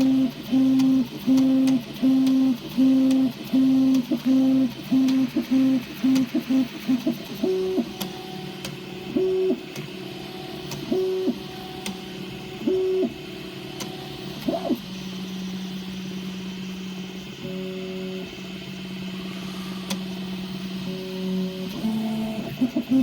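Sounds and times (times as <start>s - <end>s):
printer low hum: 0.0s - 23.0s
stepper motor tones: 0.0s - 23.0s.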